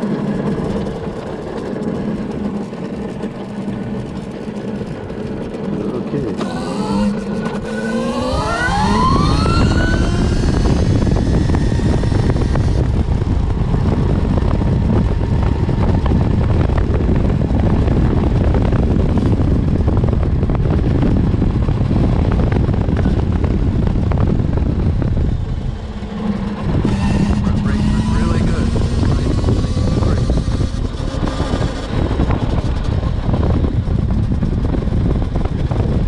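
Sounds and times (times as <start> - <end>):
electric motorcycle motor whining: 0.0 - 36.0
road noise: 0.0 - 36.0
wind rushing over microphone: 0.0 - 36.0.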